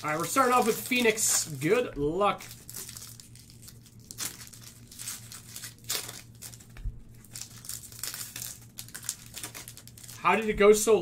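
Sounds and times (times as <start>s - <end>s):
foil packs crinkling and tearing: 0.0s - 10.6s.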